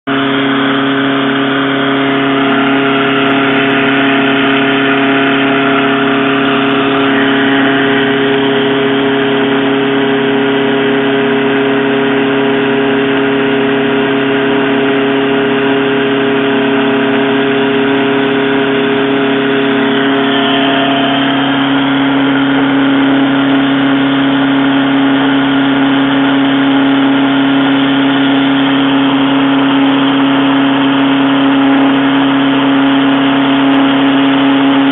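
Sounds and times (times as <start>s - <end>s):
machine tool humming while cutting: 0.1s - 34.9s.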